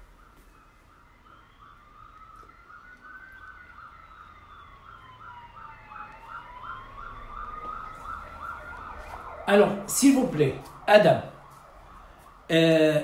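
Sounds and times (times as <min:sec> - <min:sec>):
pulsing siren tone: 0:00.0 - 0:13.0
wailing siren tone: 0:00.0 - 0:13.0.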